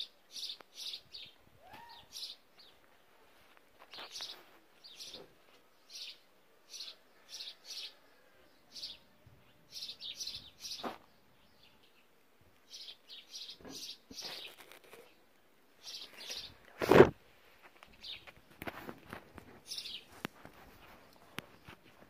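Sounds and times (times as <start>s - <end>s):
small birds chirping: 0.0s - 16.9s, 17.6s - 22.0s.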